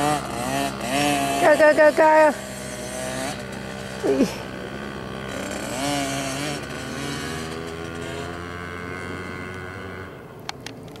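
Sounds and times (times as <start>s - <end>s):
dirt bike engines running: 0.0s - 11.0s.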